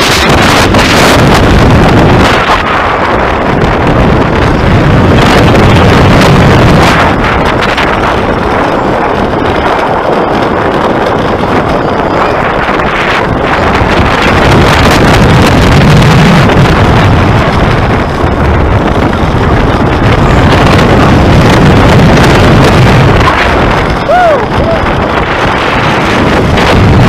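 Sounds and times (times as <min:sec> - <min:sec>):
roller coaster wheels rumbling: 0:00.0 - 0:27.0
wind rushing over microphone: 0:00.0 - 0:27.0.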